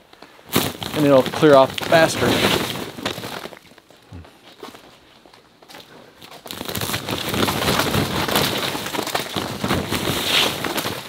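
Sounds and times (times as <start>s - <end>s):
plastic sheeting crackling: 0.0s - 4.0s, 5.8s - 11.0s.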